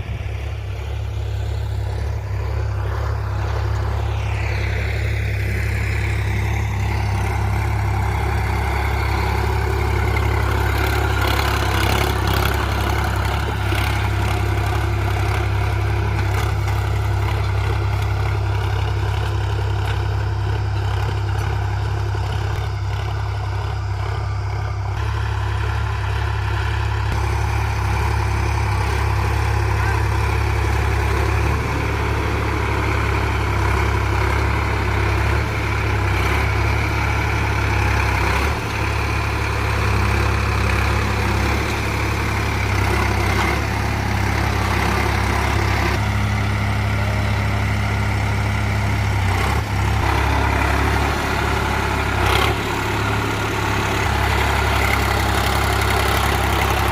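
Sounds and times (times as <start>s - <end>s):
tractor diesel engine droning: 0.0s - 56.9s.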